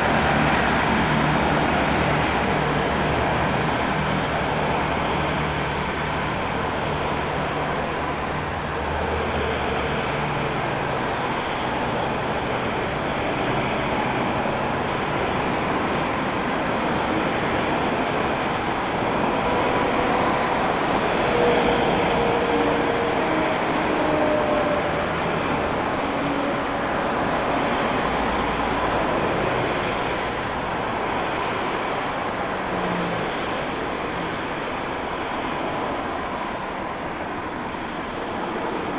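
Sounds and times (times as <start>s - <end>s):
jet airliner engines roaring: 0.0s - 38.9s.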